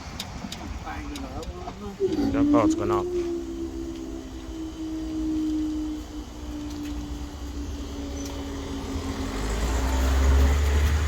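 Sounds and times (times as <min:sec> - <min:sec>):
traffic engine hum: 0:00.0 - 0:11.0
vehicle approaching with low rumble: 0:00.0 - 0:11.0.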